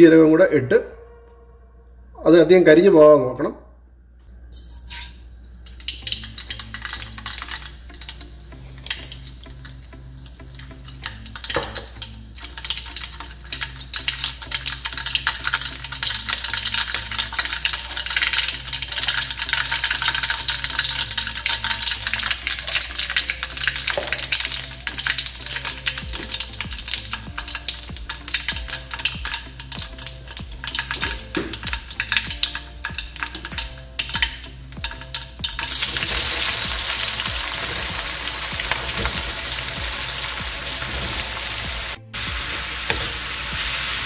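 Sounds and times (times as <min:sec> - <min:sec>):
seeds sizzling and popping in oil: 0:04.6 - 0:44.0.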